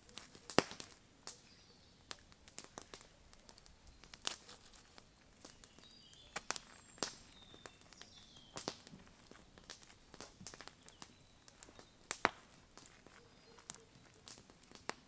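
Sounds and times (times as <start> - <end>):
hands patting wet clay: 0.0 - 1.5, 2.1 - 15.0
campfire crackles: 0.0 - 15.0
bird chirping: 1.2 - 12.1, 13.0 - 14.4.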